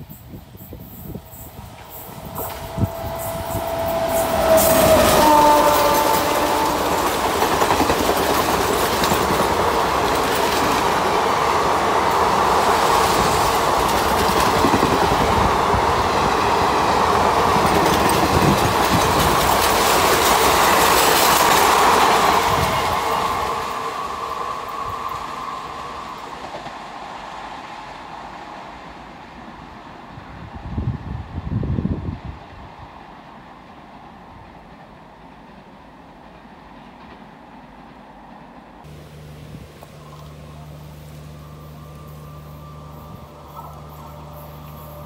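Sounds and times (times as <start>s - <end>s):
train wheels rushing on track: 0.0s - 45.0s.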